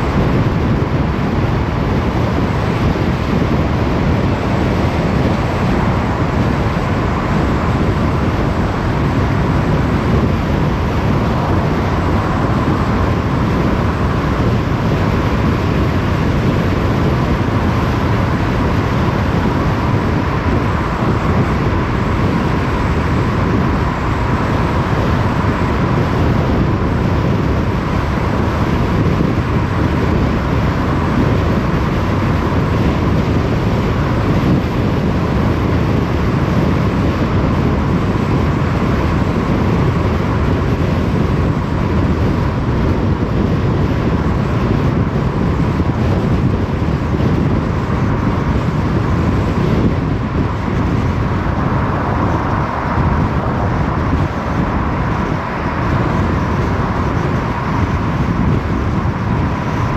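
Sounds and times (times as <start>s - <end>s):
car driving: 0.0s - 59.9s.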